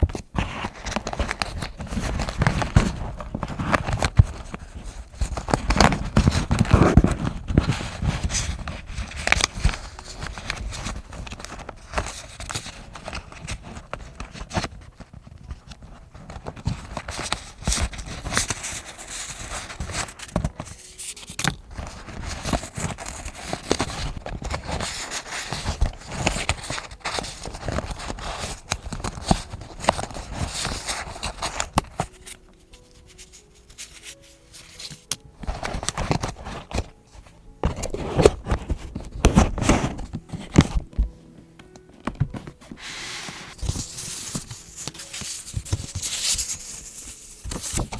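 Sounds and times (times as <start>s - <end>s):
paper rustling and scraping: 0.0s - 47.9s.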